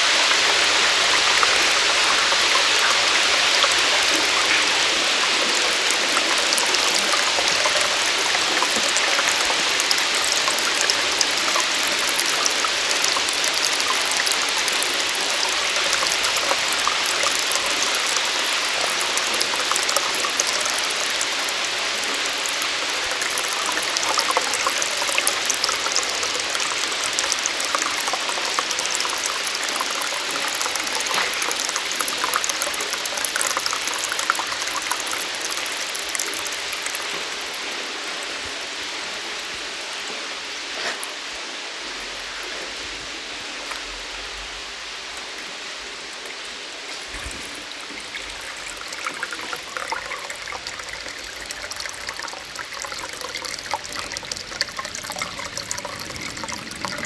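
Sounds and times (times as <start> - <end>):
small waterfall running: 0.0 - 57.0
water splashes and drips: 0.0 - 57.0.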